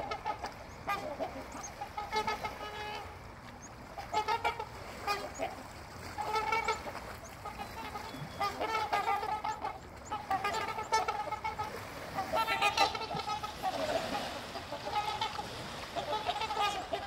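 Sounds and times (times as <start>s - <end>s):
swans calling: 0.0s - 17.0s.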